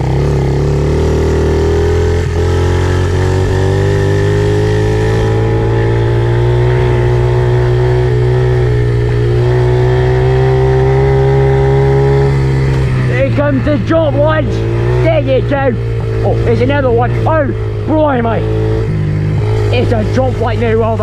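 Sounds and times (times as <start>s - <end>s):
pit bike engine running: 0.0s - 21.0s.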